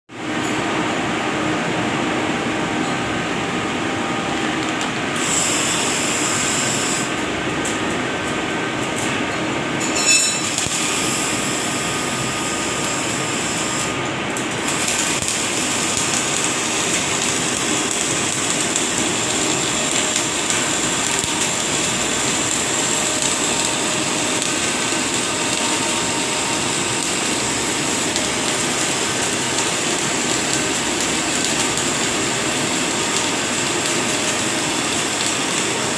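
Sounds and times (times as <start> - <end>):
welding arc hissing: 4.9 - 7.9, 9.8 - 35.9.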